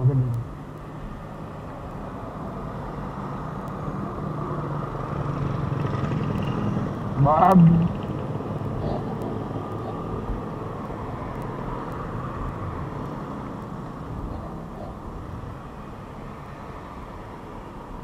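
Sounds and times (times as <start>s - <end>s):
cars passing close by: 0.0s - 18.0s.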